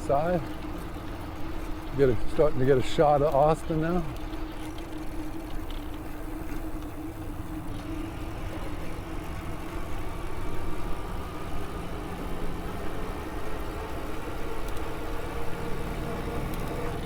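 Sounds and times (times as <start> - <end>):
electric bike motor humming: 0.0 - 17.0.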